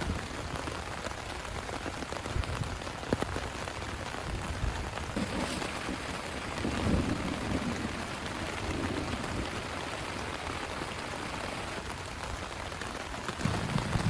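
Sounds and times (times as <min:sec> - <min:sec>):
heavy rain ticking on a surface: 0:00.0 - 0:14.0.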